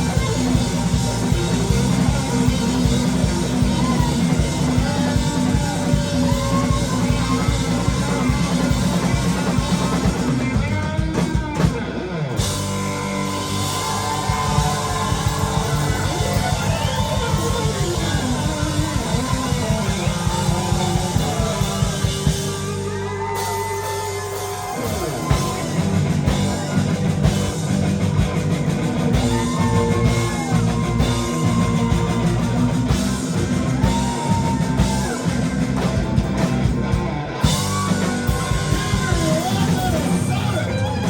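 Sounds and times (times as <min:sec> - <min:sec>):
bass guitar: 0:00.0 - 0:41.0
drums: 0:00.0 - 0:41.0
electric guitar solo: 0:00.0 - 0:41.0.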